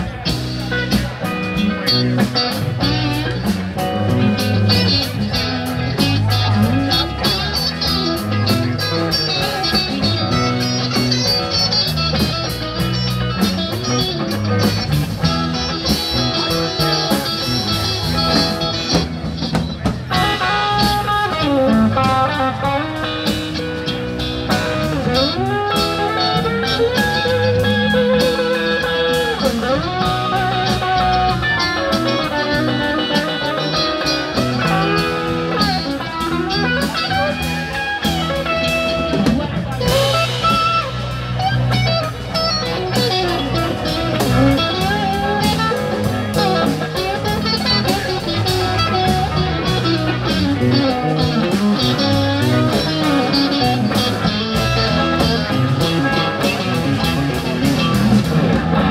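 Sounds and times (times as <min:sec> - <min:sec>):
bass: 0:00.0 - 0:58.9
drum kit: 0:00.0 - 0:58.9
electric guitar lead: 0:00.0 - 0:58.9.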